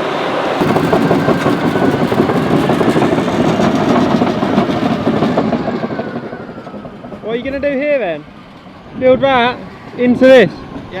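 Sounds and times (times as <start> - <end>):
heavy earthmoving machine rumbling: 0.5 - 11.0.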